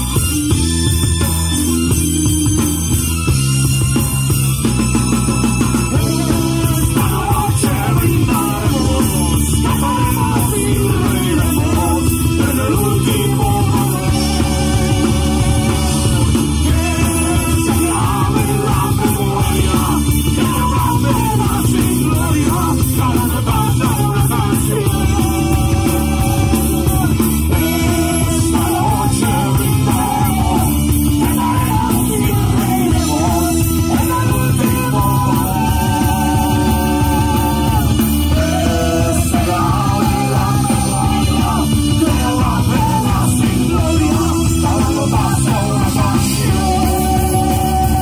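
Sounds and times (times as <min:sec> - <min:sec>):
live rock band: 0:00.0 - 0:48.0
person singing: 0:06.0 - 0:48.0.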